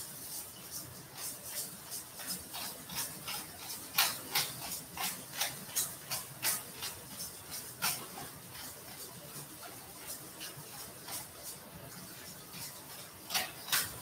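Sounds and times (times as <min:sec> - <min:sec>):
pepper grinder scratching: 0:00.0 - 0:14.0.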